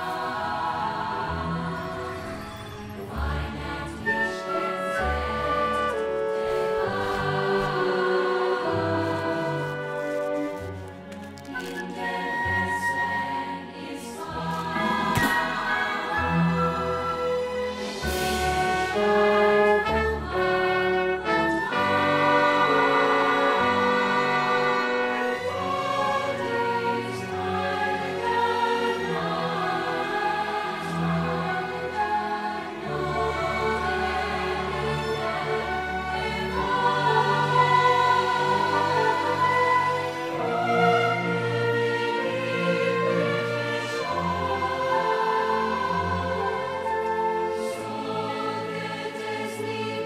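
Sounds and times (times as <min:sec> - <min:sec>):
choir singing: 0:00.0 - 0:50.0
orchestral music: 0:00.0 - 0:50.0.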